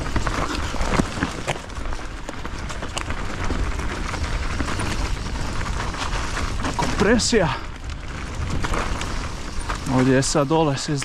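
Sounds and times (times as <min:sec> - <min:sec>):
bike rattling over bumps: 0:00.0 - 0:11.0
bike tyres rolling on dirt: 0:00.0 - 0:11.0.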